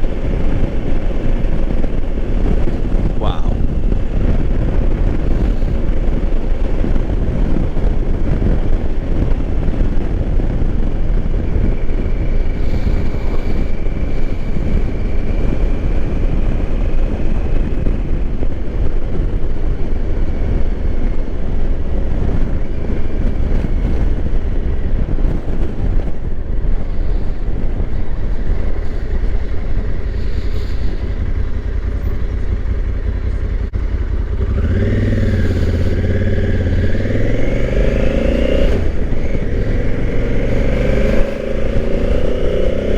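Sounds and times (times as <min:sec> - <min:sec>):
motorcycle engine running: 0:00.0 - 0:42.9
wind rushing on microphone: 0:00.0 - 0:42.9.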